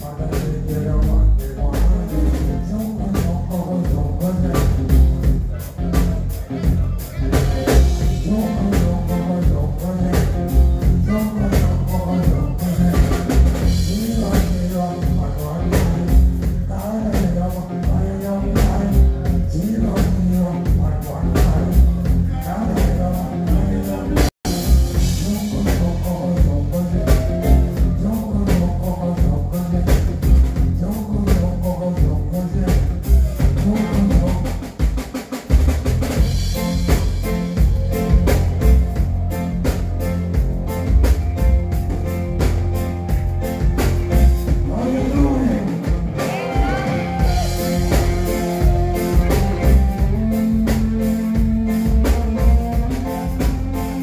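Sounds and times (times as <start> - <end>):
reggae band playing: 0.0 - 54.0.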